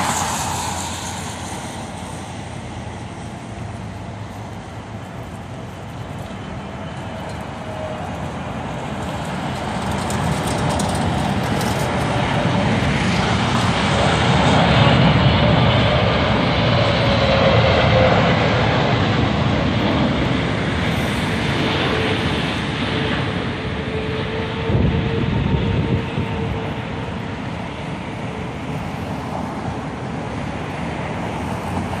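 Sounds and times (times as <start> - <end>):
jet plane passing overhead: 0.0 - 32.0.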